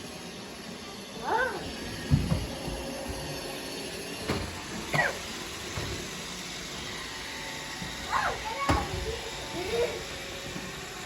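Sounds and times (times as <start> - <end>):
robot vacuum whirring: 0.0 - 11.0.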